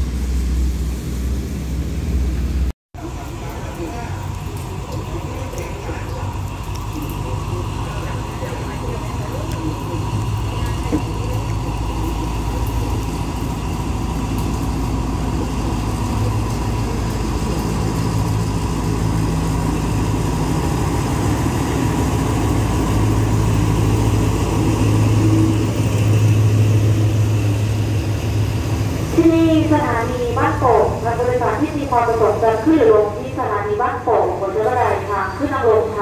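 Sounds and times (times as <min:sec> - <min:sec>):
diesel locomotive engine droning: 0:00.0 - 0:36.0.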